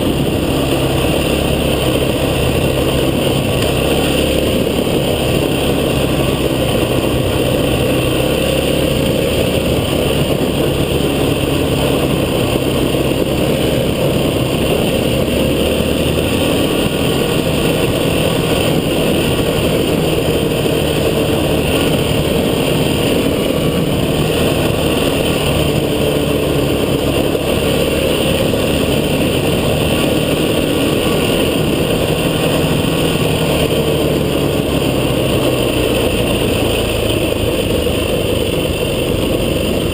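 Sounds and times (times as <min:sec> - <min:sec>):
rushing noise: 0:00.0 - 0:39.9
vehicle engine running: 0:00.0 - 0:39.9.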